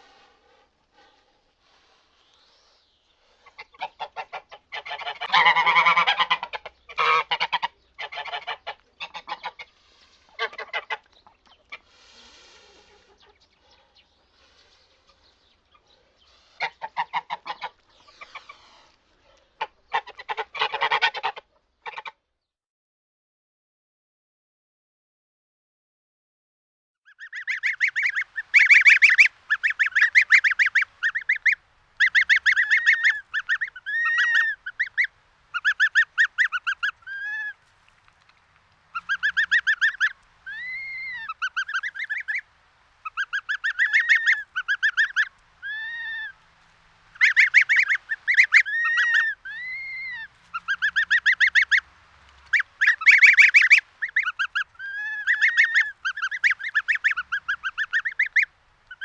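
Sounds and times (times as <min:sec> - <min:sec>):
geese honking: 0:00.0 - 0:22.2, 0:27.1 - 0:59.0.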